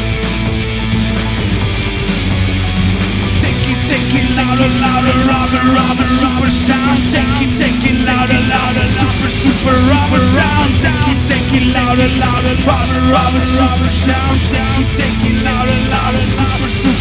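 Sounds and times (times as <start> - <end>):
live rock band with electronics: 0.0 - 17.0.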